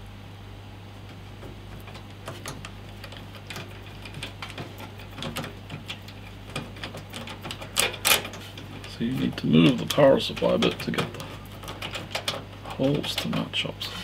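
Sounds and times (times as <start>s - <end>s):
screwdriver clicking on metal: 1.8s - 13.4s.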